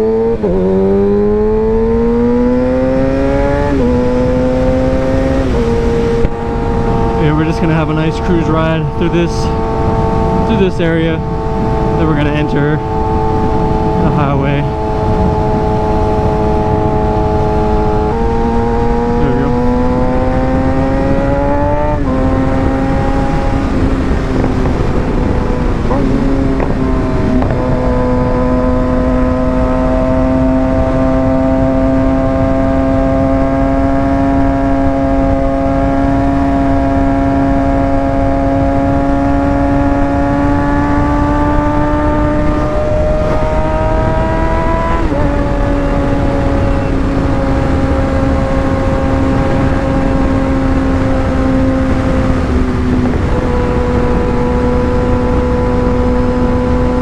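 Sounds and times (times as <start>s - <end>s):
motorcycle engine: 0.0s - 57.0s
wind rush: 0.0s - 57.0s.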